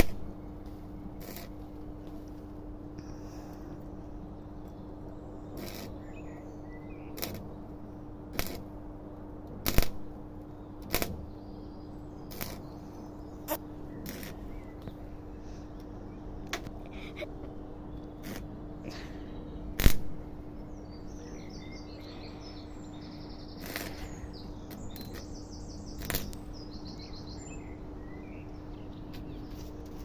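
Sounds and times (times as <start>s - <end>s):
steady electrical hum: 0.0s - 30.0s.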